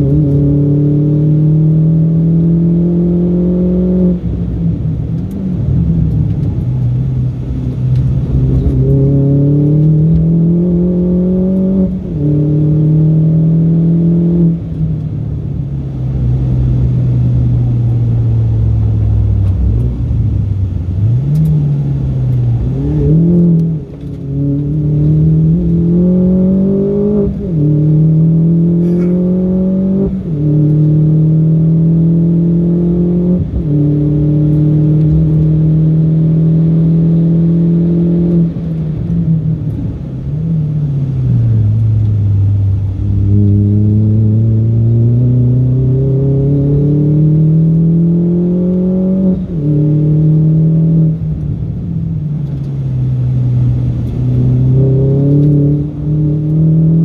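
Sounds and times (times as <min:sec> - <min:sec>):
car engine revving through gears: 0:00.0 - 0:15.1, 0:15.7 - 0:57.0.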